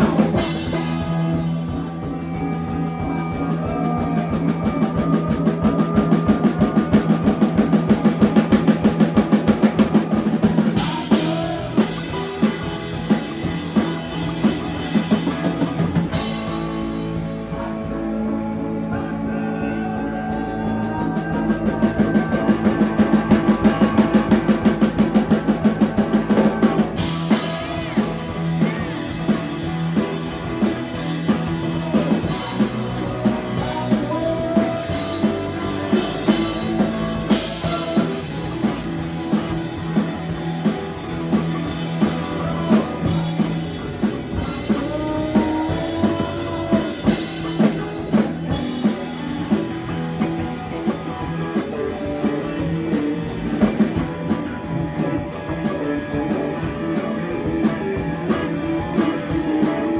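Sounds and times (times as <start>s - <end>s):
fast drum beats: 0.0s - 17.6s, 19.7s - 59.9s
live rock band playing: 0.0s - 59.9s.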